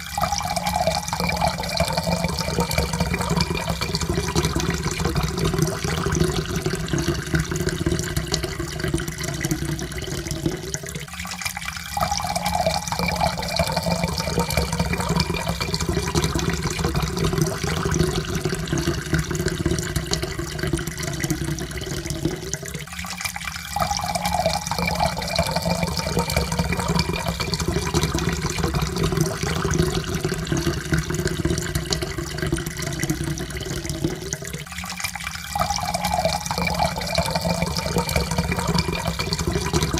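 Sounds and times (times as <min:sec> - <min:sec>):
water pouring into a cup: 0:00.0 - 0:39.9.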